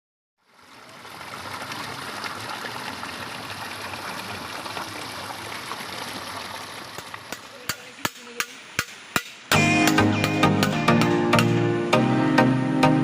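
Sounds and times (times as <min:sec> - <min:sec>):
water rushing: 0:00.4 - 0:12.0.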